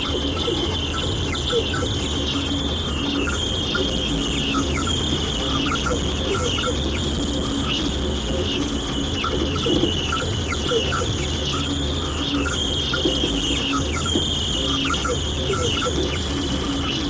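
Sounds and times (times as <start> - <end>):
chirping radio signal: 0.0 - 17.0.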